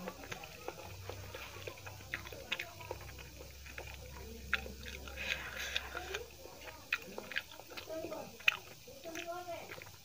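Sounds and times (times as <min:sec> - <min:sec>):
chewing: 0:00.0 - 0:10.0
fingers mixing wet food: 0:00.0 - 0:10.0.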